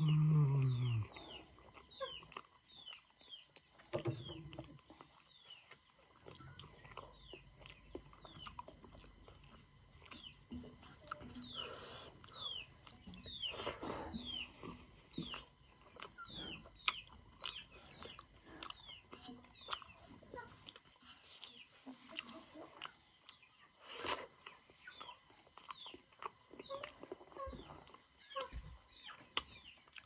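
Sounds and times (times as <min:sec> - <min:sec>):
person chewing with lip smacks: 0:00.8 - 0:28.5, 0:29.2 - 0:30.0.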